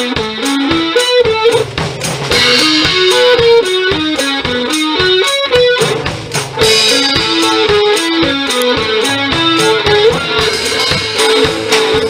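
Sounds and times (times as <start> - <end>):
drum beat: 0.0 - 12.0
electric guitar melody: 0.0 - 12.0.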